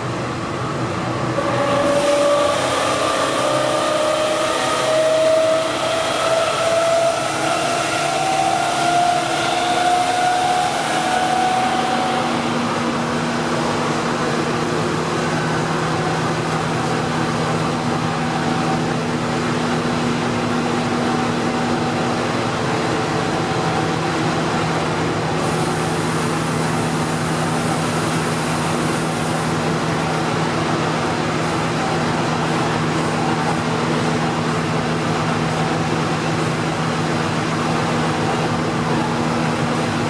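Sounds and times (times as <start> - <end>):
train rolling noise: 0.0 - 40.0.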